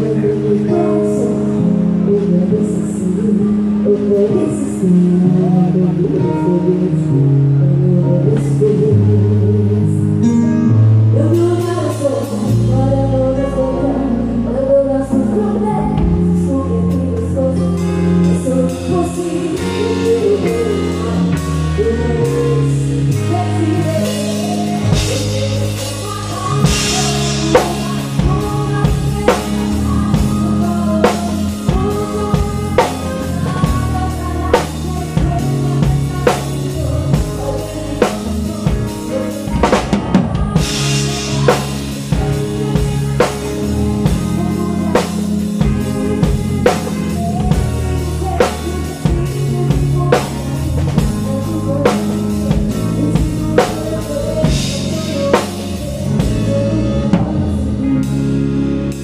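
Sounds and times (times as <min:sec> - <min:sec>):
band playing slow ballad: 0:00.0 - 0:59.0
person singing: 0:00.0 - 0:59.0
sustained bass: 0:00.0 - 0:59.0.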